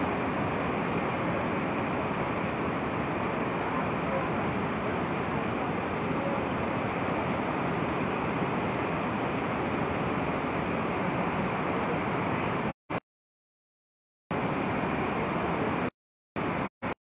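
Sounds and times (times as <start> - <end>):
floodwater rushing: 0.0 - 12.7, 14.4 - 17.0.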